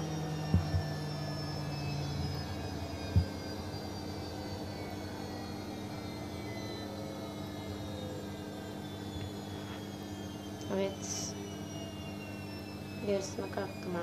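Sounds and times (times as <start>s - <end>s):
machine hum with steady tones: 0.0s - 14.0s.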